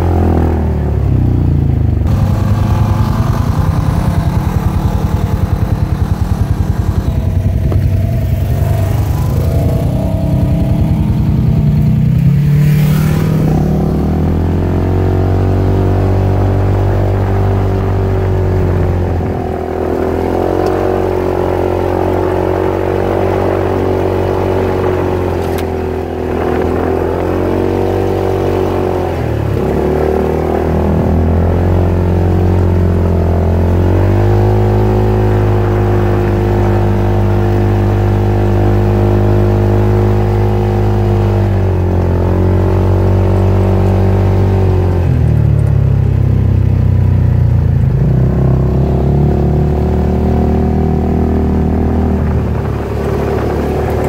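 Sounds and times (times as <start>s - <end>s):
off-road vehicle engine running: 0.0s - 54.0s.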